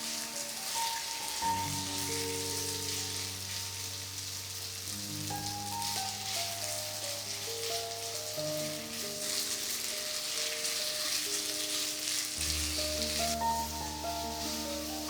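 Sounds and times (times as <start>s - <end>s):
background music with held notes: 0.0s - 15.0s
food sizzling in a hot pan: 0.0s - 15.0s.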